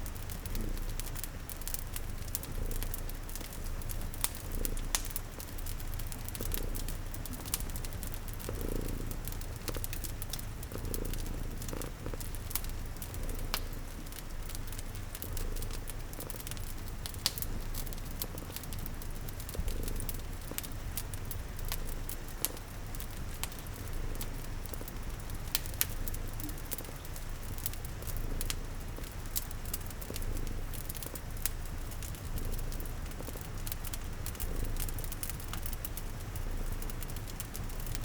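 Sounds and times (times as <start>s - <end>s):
cat purring: 0.0s - 38.0s
rain pattering: 0.0s - 38.0s
wood fire crackling: 0.0s - 38.0s.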